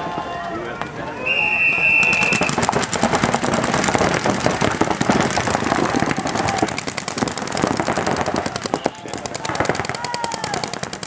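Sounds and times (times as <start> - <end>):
paintball markers firing: 2.0 - 11.0.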